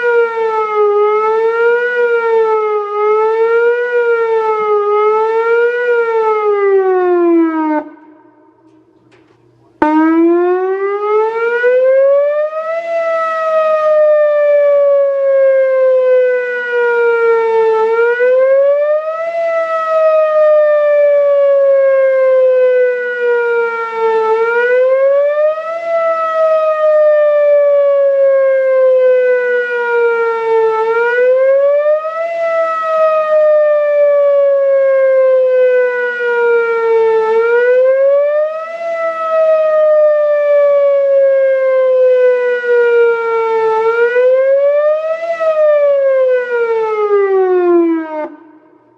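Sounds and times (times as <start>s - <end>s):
tornado siren wailing: 0.0s - 48.9s.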